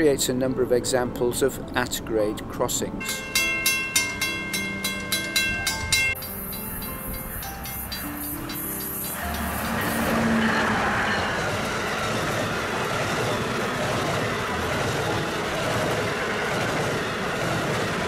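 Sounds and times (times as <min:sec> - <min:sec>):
electric train passing at speed: 0:03.0 - 0:18.0
wheels rushing on rails: 0:03.0 - 0:18.0.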